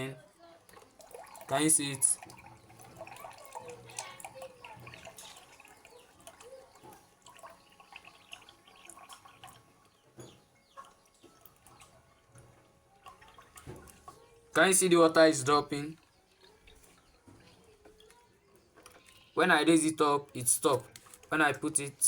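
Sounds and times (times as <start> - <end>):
water dripping into a cup: 0.0 - 22.0.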